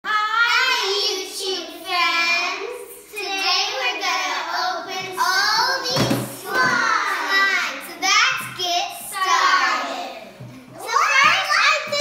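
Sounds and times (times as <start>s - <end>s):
children singing together: 0.1s - 7.8s, 8.5s - 11.0s.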